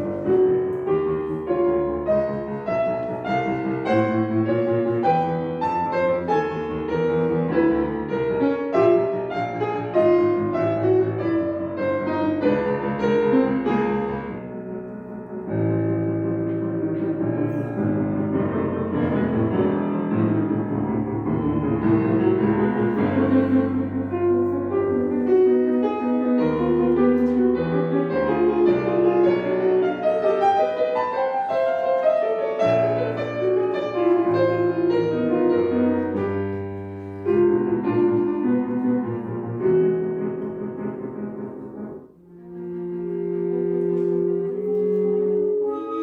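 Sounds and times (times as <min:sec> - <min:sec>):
piano playing chords: 0:00.0 - 0:46.0.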